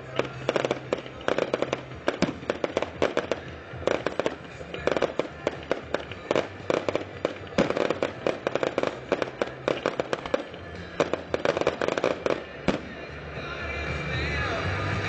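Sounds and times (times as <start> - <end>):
fireworks bursting and crackling: 0.0 - 13.6.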